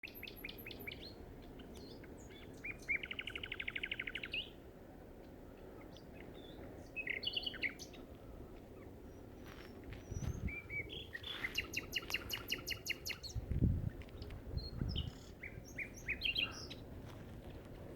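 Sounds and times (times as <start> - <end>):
nightingale singing: 0.0 - 4.6, 5.2 - 8.1, 8.8 - 16.9.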